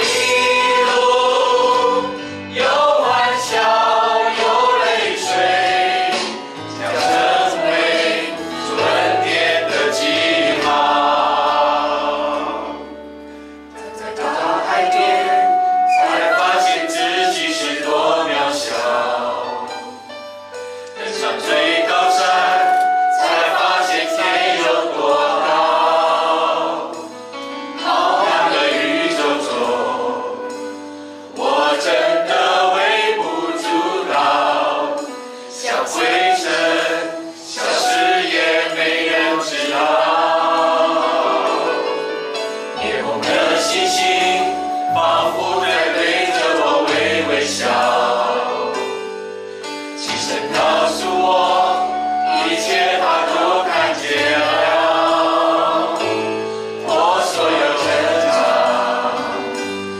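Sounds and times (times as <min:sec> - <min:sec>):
group singing worship song: 0:00.0 - 0:20.1, 0:20.8 - 0:49.2, 0:50.0 - 0:59.9.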